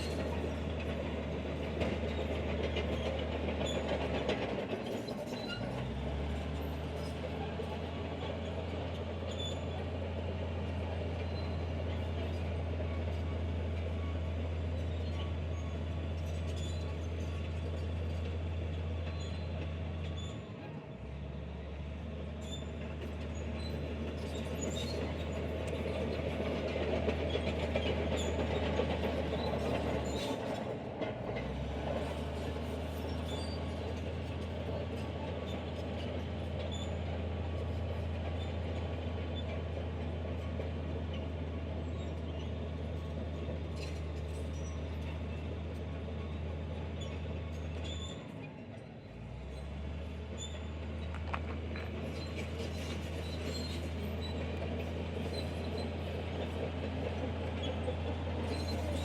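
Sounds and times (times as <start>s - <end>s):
bulldozer diesel engine drone: 0.0s - 59.0s
steel tracks clanking and squeaking: 0.0s - 59.0s.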